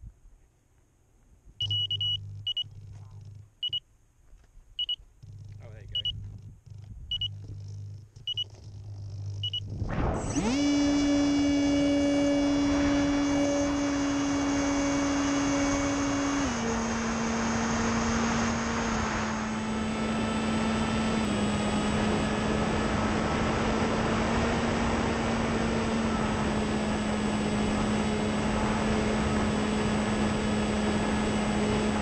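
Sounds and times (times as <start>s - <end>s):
brushless motor buzzing: 1.6s - 3.8s, 4.8s - 32.0s.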